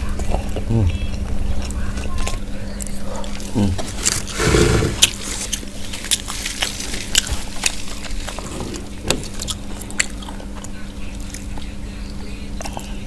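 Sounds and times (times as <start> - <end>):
chewing fried chicken: 0.0 - 13.0
steady low hum: 0.0 - 13.0.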